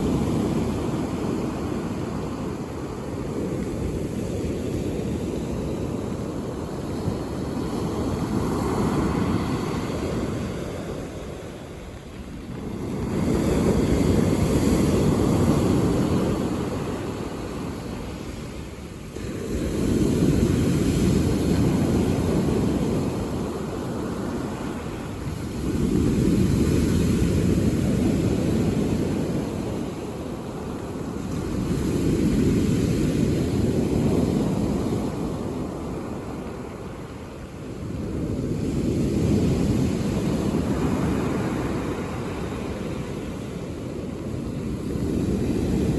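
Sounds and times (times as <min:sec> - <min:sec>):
sea waves breaking on beach: 0:00.0 - 0:45.9.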